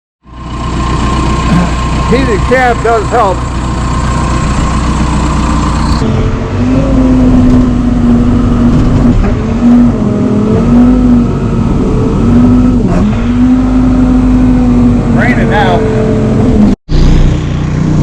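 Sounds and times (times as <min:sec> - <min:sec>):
backhoe diesel engine running: 0:00.2 - 0:18.0.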